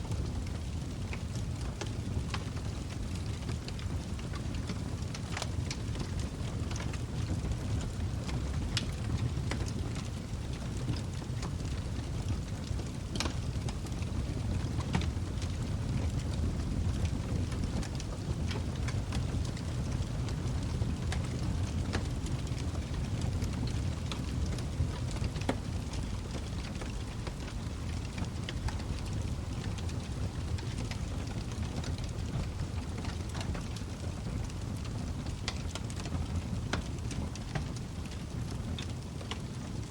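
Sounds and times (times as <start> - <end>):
log fire crackling and popping: 0.0 - 39.9.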